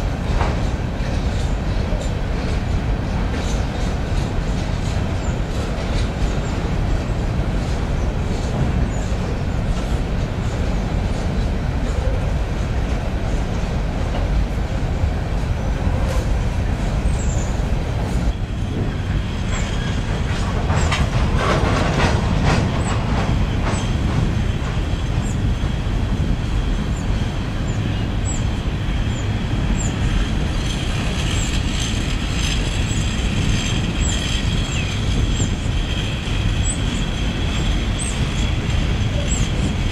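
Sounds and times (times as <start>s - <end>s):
train cars rumbling over bridge: 0.0s - 39.9s
wheels clicking over rail joints: 0.0s - 39.9s.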